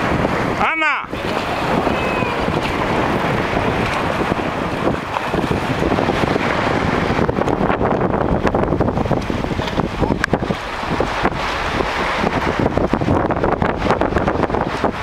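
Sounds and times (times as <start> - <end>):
sea water washing at shore: 0.0 - 15.0
wind buffeting microphone: 0.0 - 15.0.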